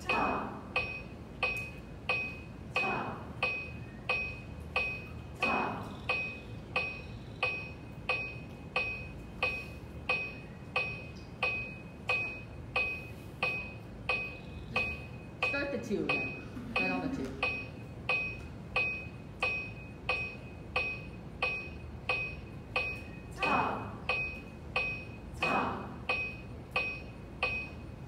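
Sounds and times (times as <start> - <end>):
electronic metronome ticking: 0.0 - 28.0.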